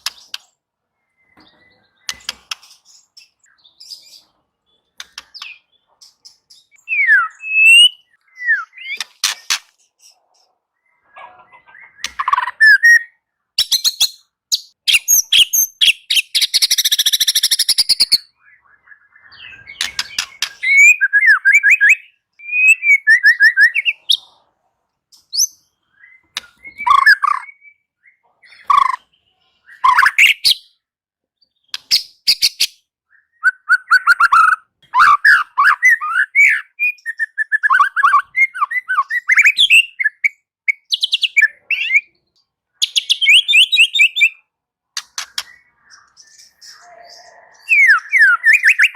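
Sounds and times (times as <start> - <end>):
bird singing varied phrases: 0.0 - 24.5, 25.1 - 48.9.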